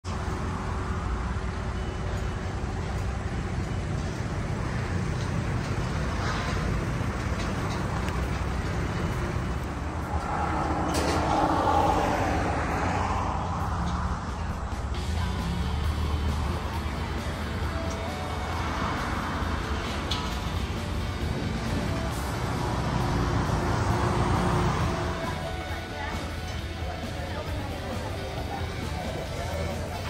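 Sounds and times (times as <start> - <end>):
highway traffic rumble: 0.0 - 30.0
heavy vehicle passing: 2.6 - 30.0.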